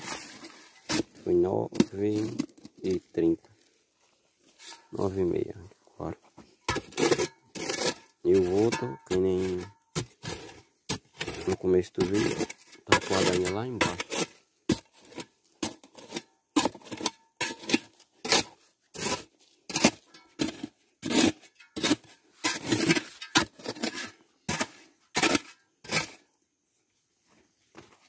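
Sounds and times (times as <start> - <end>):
digging tool scraping soil: 0.0 - 3.6, 4.4 - 26.4.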